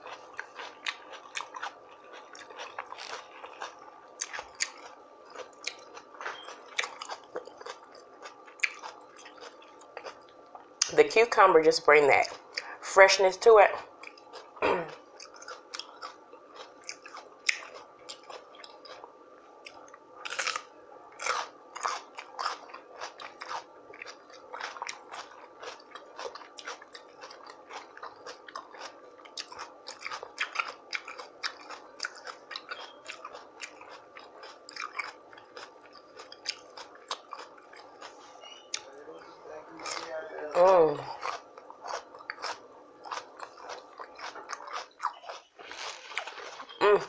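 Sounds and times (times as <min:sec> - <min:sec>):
chewing with crunches: 0:00.0 - 0:11.0, 0:12.0 - 0:12.9, 0:13.7 - 0:47.0.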